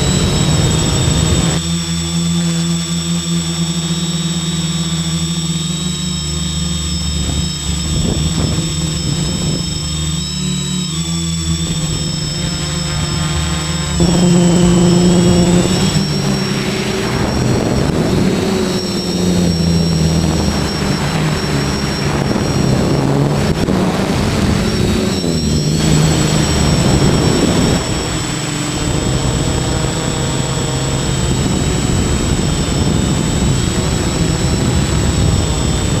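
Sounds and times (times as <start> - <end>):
drone motors and propellers whining: 0.0 - 36.0.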